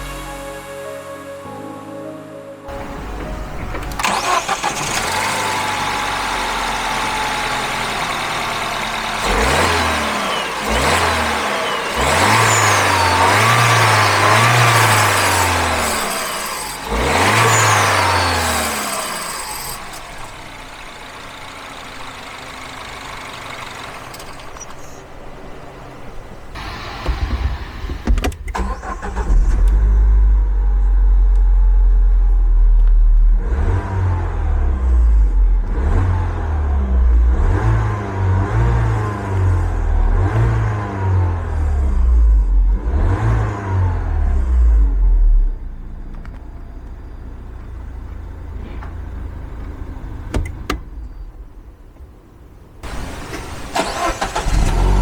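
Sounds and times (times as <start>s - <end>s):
car engine idling and revving: 2.7s - 55.0s.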